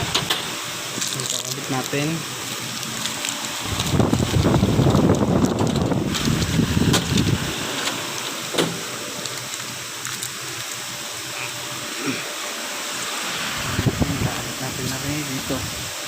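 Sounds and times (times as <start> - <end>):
rumbling handling noise: 0.0 - 16.0
steady hiss: 0.0 - 16.0.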